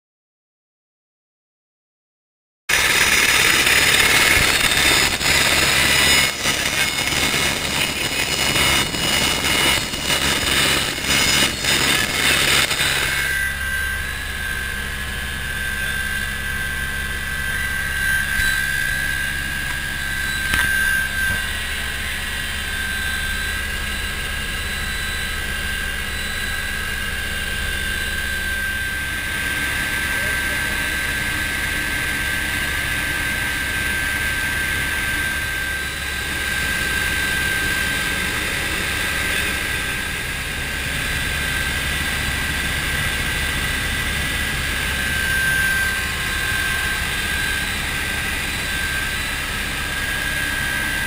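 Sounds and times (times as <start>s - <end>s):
helicopter cabin whine and drone: 2.7s - 51.0s
helicopter rotor rushing outside: 2.7s - 51.0s.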